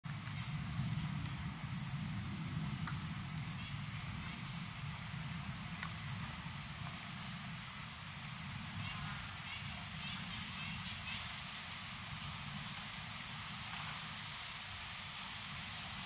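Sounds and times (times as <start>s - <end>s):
high insect drone: 0.1s - 16.0s.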